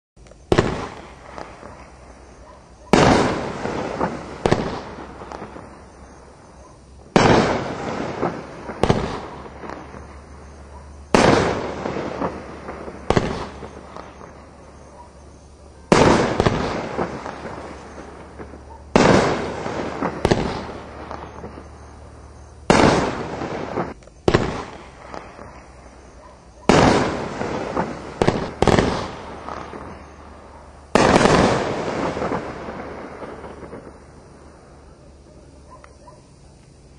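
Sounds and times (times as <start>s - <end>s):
loud firework reports with echo: 0.4s - 36.9s.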